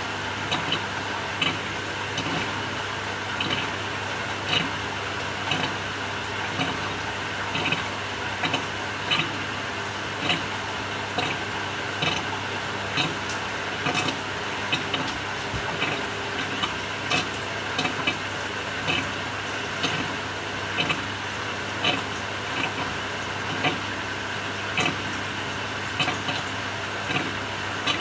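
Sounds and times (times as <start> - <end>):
washing machine motor hum: 0.0 - 28.0.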